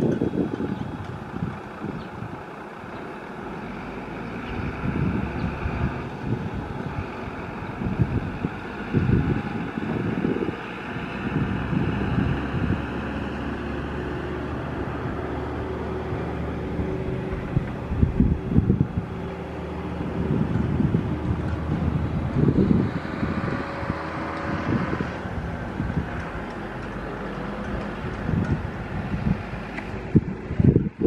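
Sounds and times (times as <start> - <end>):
jet engine roar and whine: 0.0 - 31.0
wind buffeting microphone: 0.0 - 31.0.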